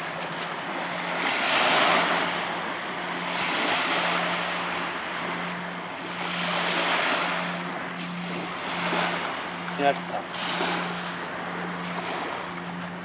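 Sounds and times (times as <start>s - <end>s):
waves washing onto sandy shore: 0.0s - 13.0s.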